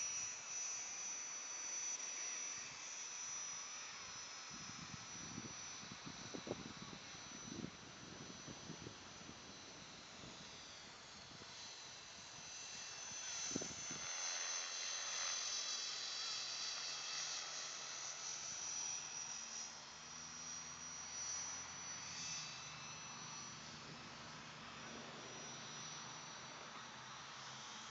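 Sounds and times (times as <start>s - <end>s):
aircraft flying over: 2.2s - 27.9s.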